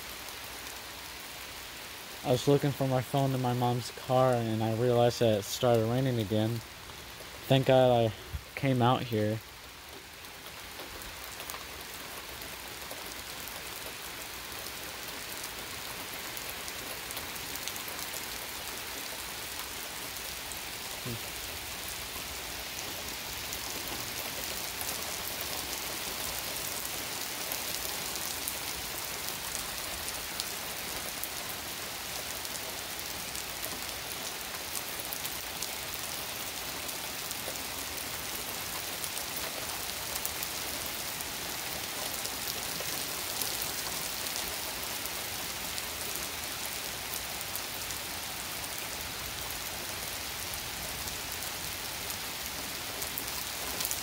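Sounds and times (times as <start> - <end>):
rain on pavement: 0.0 - 54.0.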